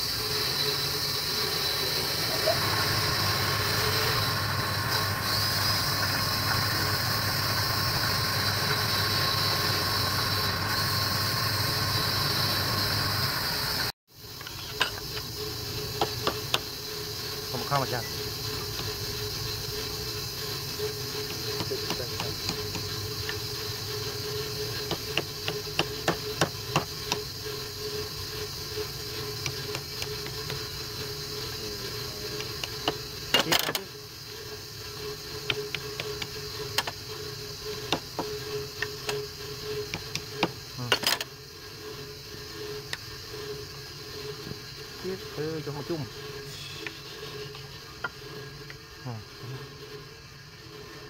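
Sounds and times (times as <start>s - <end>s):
wood lathe humming: 0.0s - 51.0s.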